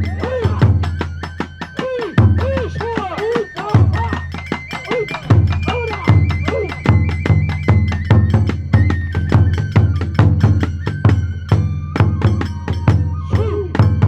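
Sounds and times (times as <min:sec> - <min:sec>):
bamboo flute high notes: 0:00.0 - 0:14.0
large drum beating: 0:00.0 - 0:14.0
sharp percussion clatter: 0:00.0 - 0:14.0.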